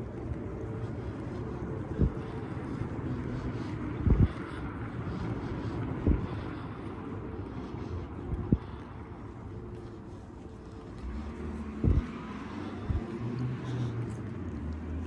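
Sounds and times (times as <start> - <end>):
distant air raid siren: 0.0 - 15.0
wind rumbling on microphone: 0.0 - 15.0.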